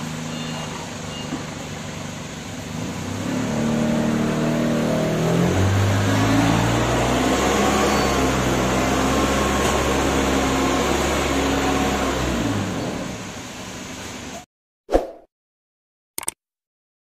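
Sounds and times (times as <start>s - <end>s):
forklift engine running: 0.0s - 14.3s.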